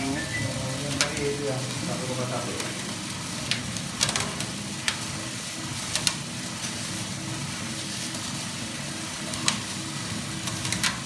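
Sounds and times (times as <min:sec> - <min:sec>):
roasted beans rustling: 0:00.0 - 0:11.0.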